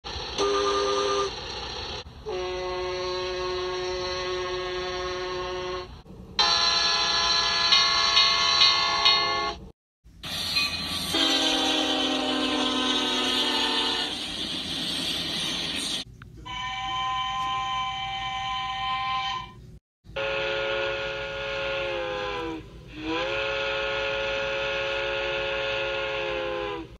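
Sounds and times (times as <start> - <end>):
steam locomotive whistle blasts: 0.4 - 1.4, 2.2 - 9.6, 10.3 - 14.4, 16.5 - 26.9
diesel locomotive horn: 0.4 - 1.5, 2.2 - 9.7, 11.1 - 14.3, 16.4 - 26.9.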